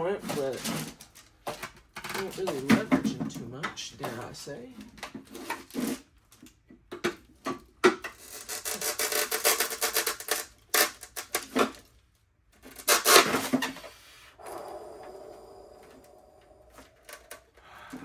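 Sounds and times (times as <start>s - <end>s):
plastic creaking and rasping: 0.0s - 13.9s, 16.0s - 18.0s.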